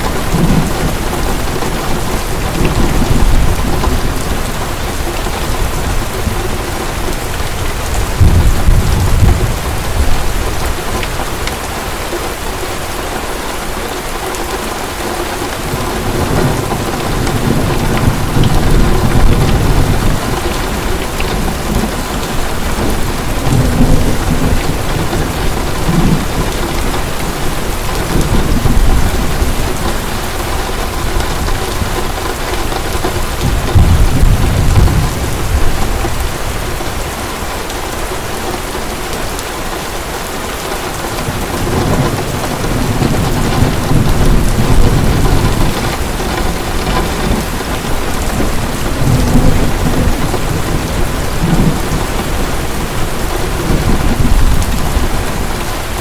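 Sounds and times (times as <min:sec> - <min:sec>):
thunder rumbles: 0:00.0 - 0:11.7, 0:15.5 - 0:37.3, 0:40.9 - 0:56.0
heavy rain: 0:00.0 - 0:56.0.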